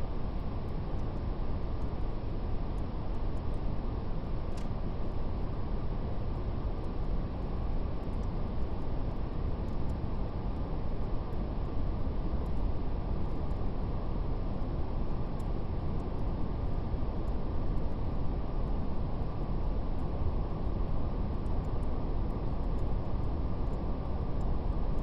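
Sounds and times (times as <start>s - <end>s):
brown noise hiss: 0.0s - 25.0s
faint fire crackle: 0.0s - 25.0s.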